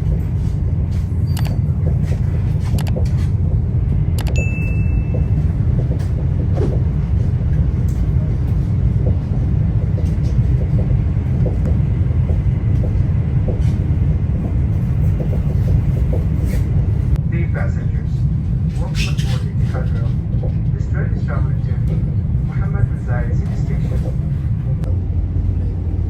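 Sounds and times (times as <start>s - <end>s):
train carriage rumbling on track: 0.0s - 26.0s.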